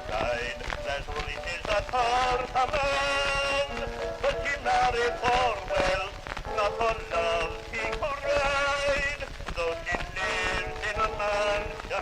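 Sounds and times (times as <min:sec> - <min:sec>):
man singing a ballad: 0:00.0 - 0:12.0
quiet accompaniment: 0:00.0 - 0:12.0
record crackle and hiss: 0:00.0 - 0:12.0.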